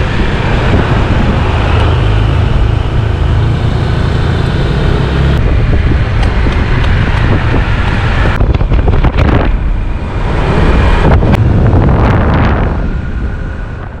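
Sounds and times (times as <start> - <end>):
scooter engine and tyre rumble: 0.0 - 14.0
wind buffeting microphone: 0.0 - 14.0.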